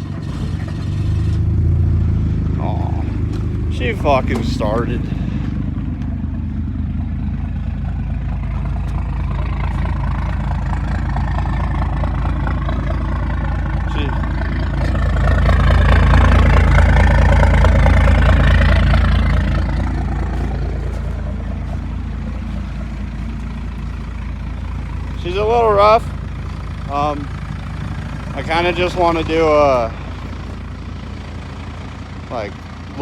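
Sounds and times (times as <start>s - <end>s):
diesel engine idling rough: 0.0s - 33.0s.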